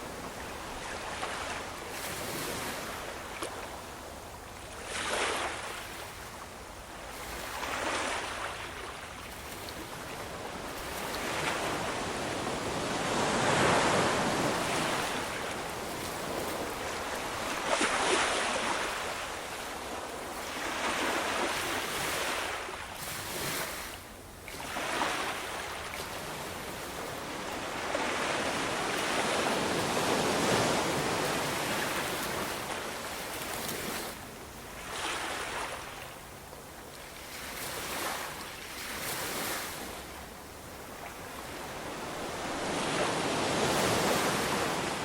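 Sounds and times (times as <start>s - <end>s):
ocean waves breaking on shore: 0.0s - 45.0s.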